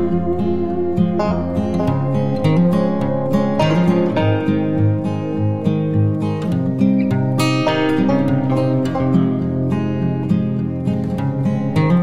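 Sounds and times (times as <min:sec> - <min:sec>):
guitar strummed and picked: 0:00.0 - 0:12.0.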